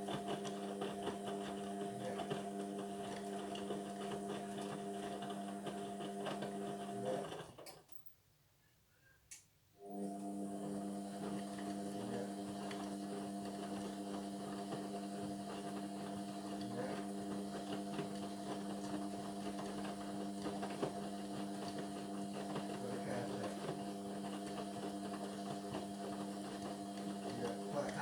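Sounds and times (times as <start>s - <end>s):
washing machine motor hum: 0.0s - 7.6s, 9.8s - 28.0s.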